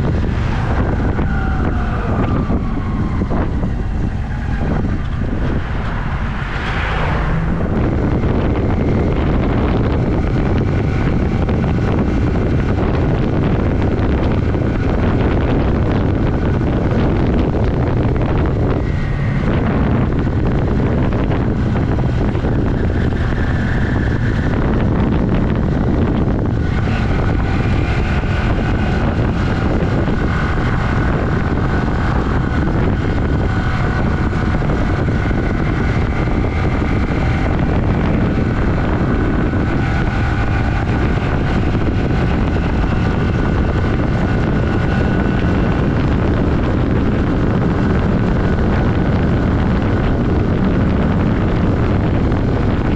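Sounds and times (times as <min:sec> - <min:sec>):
motorcycle engine running: 0:00.0 - 0:06.7, 0:07.3 - 0:52.9
wind rush on microphone: 0:00.0 - 0:52.9.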